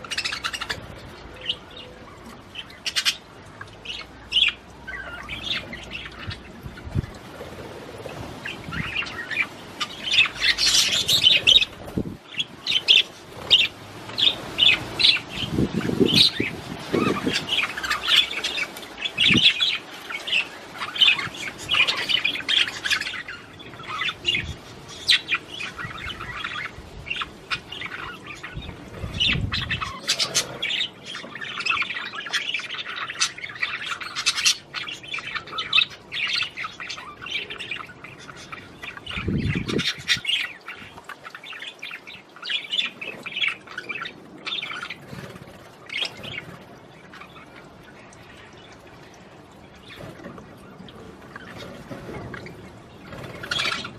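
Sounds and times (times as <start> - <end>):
budgerigars chattering and warbling: 0.0 - 53.9.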